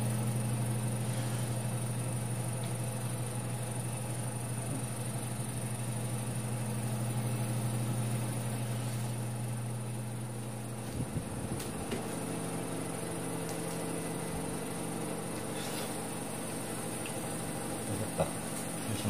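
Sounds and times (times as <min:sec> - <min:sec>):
electrical hum with whine: 0:00.0 - 0:19.0.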